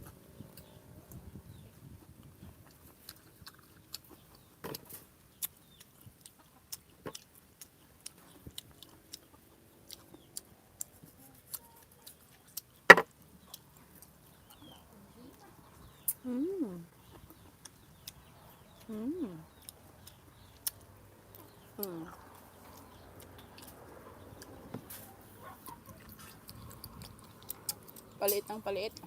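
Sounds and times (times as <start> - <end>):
wet chewing and mouth smacks: 0.6 - 16.3, 17.0 - 29.0.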